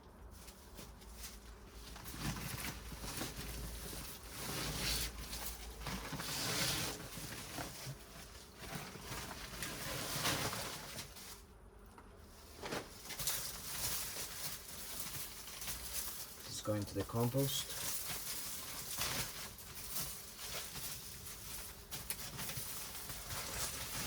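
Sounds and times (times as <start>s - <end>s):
hands rummaging through soil: 0.3s - 24.0s.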